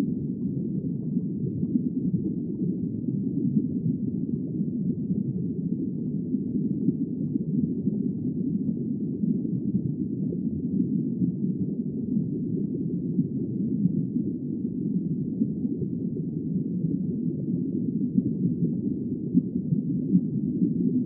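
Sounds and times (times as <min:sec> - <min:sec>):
underwater rumble: 0:00.0 - 0:21.0.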